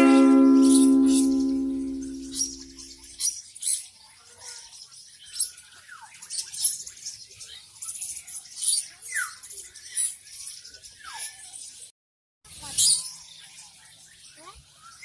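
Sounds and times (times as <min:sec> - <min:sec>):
caged birds chirping: 0:00.0 - 0:11.9, 0:12.5 - 0:15.0.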